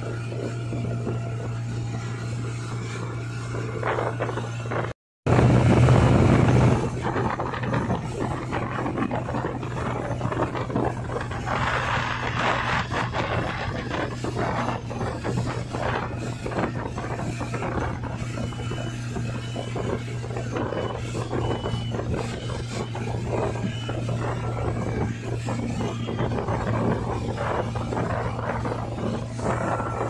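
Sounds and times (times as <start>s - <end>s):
motorboat engine running: 0.0s - 30.0s
rushing water: 0.0s - 30.0s
wind: 0.0s - 30.0s.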